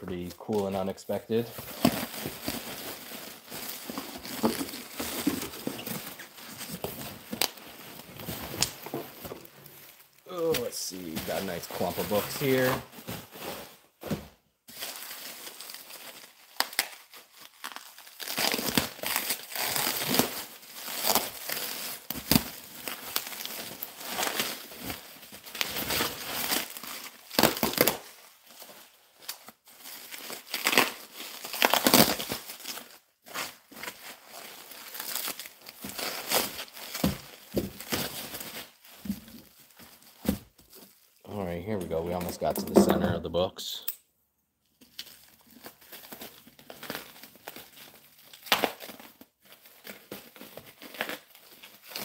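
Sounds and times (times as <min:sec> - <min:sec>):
plastic wrap crinkling and tearing: 0:00.1 - 0:42.9, 0:44.8 - 0:52.0.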